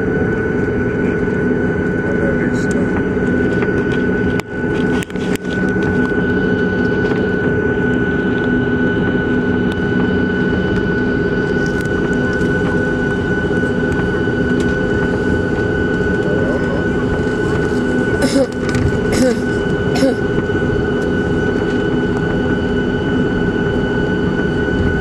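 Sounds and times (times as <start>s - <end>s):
jet engine noise with high whine: 0.0s - 25.0s.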